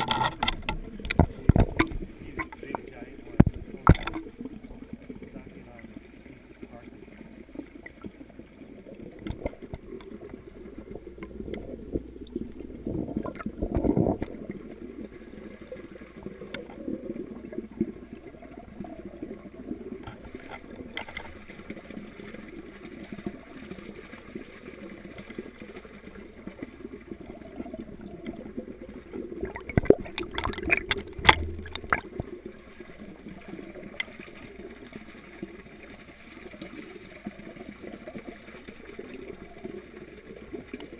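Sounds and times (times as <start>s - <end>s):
water gurgling and trickling: 0.0s - 40.9s.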